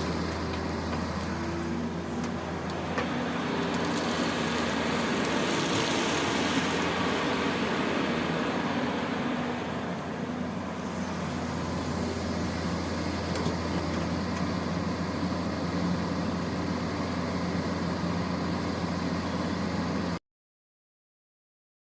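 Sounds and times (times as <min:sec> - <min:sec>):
diesel engines droning: 0:00.0 - 0:20.2.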